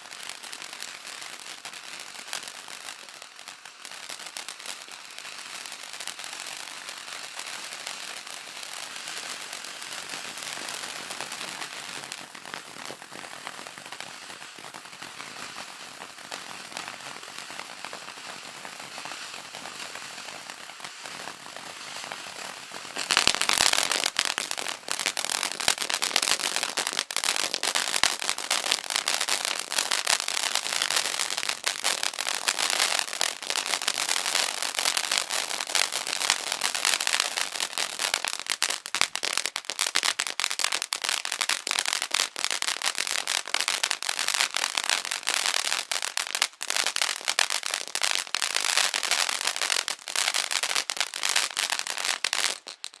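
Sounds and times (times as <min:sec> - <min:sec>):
firework fountain hissing and crackling: 0:00.0 - 0:53.0.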